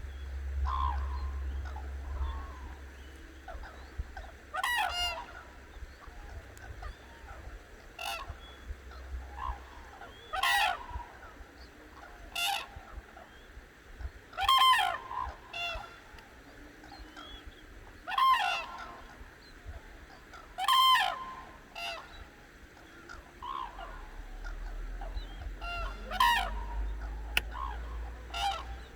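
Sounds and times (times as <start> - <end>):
cranes calling: 0.0 - 28.9.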